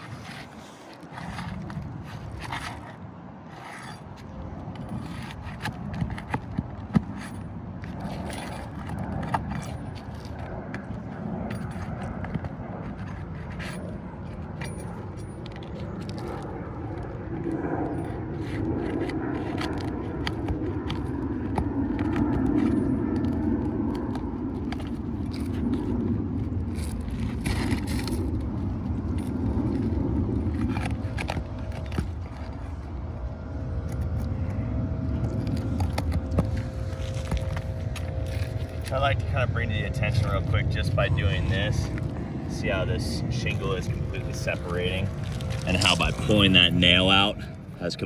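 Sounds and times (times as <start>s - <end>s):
pry bar scraping on shingles: 0.0s - 47.9s
steady low rumble: 4.3s - 48.0s.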